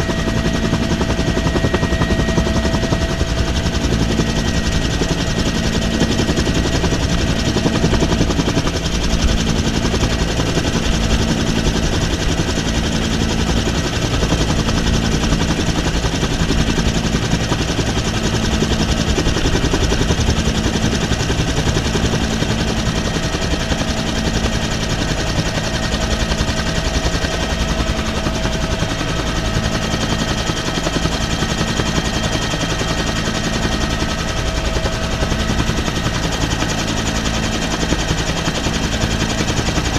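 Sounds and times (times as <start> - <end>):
helicopter rotor blades thumping: 0.0 - 39.9
turbine engine steady tone: 0.0 - 39.9.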